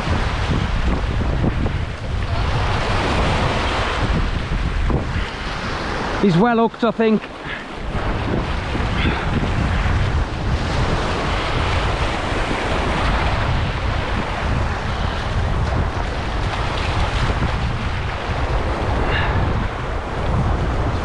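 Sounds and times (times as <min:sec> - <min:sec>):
surf breaking over rocks: 0:00.0 - 0:21.0
wind buffeting microphone: 0:00.0 - 0:21.0.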